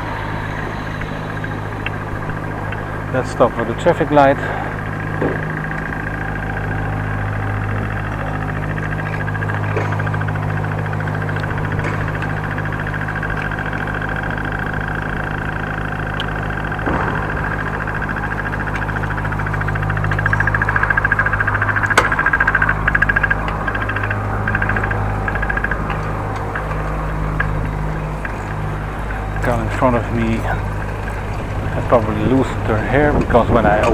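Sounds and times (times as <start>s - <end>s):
traffic engines humming: 0.0s - 33.9s.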